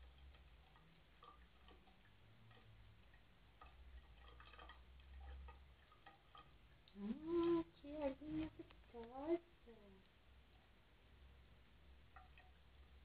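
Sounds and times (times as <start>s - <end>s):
cat lapping water: 0.0s - 13.0s.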